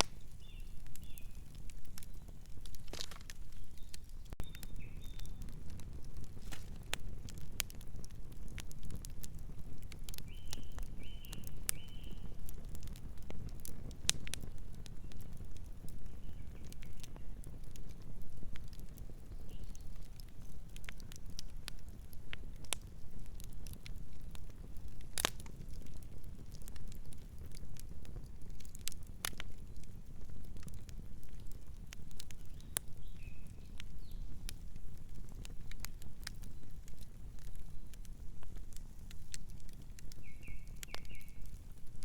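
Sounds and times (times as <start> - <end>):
campfire crackling and popping: 0.0 - 42.0
fire low rumble: 0.0 - 42.0.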